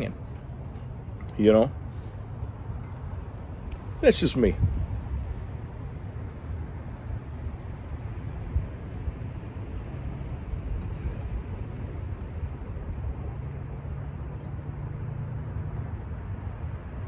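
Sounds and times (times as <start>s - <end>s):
wind rumbling on microphone: 2.4s - 17.0s.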